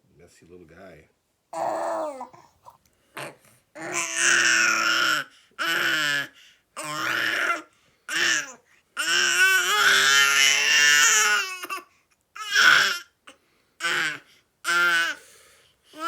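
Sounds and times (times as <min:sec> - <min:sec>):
baby crying and babbling: 0:01.5 - 0:02.5, 0:03.2 - 0:15.2.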